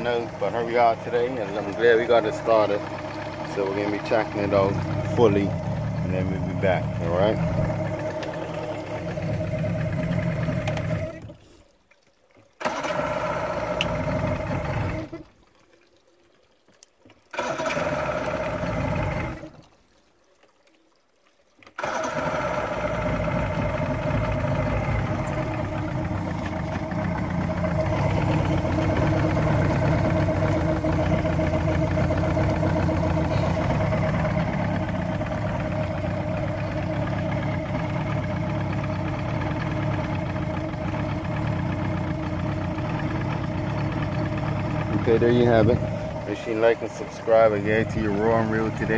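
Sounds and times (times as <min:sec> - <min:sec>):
outboard motor idling: 0:00.0 - 0:11.7, 0:12.4 - 0:15.8, 0:17.1 - 0:19.9, 0:21.6 - 0:48.9.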